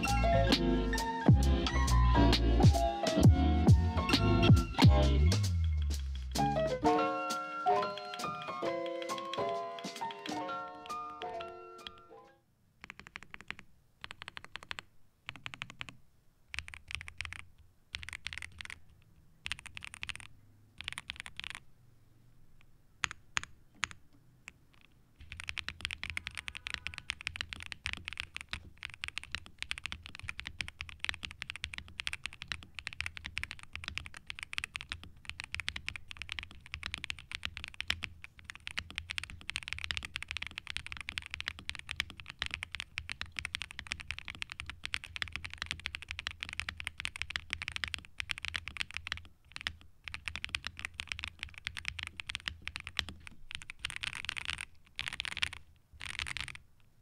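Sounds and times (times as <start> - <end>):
mechanical keyboard typing: 7.7 - 12.1, 12.8 - 21.7, 22.6 - 56.9.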